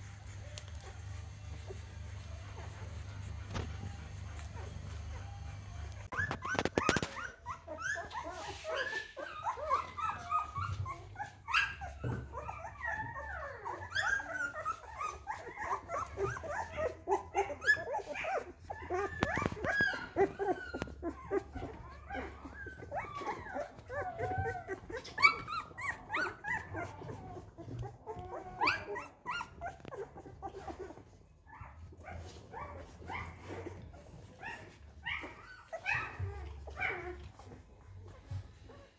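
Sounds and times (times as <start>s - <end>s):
puppies whining and squeaking: 0.0s - 38.9s.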